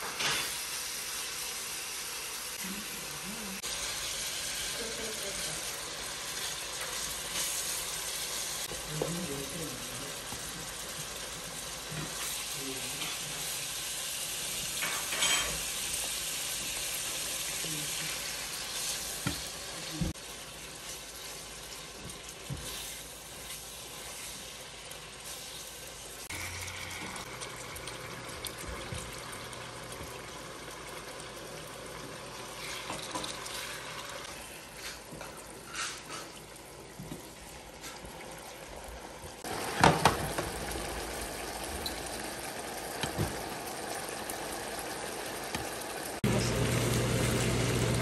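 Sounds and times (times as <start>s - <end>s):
meat bubbling in a frying pan: 0.6s - 48.0s.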